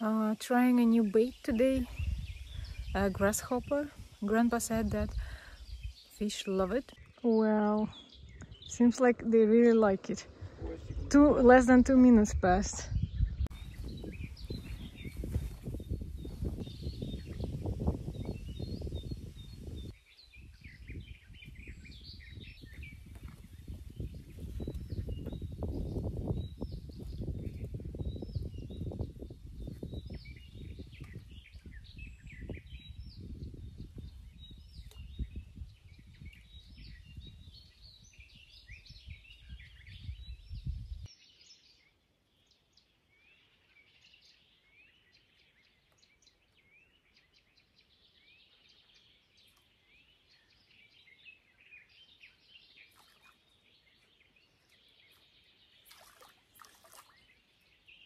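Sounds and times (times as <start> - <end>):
small birds chirping and singing: 0.0 - 58.0.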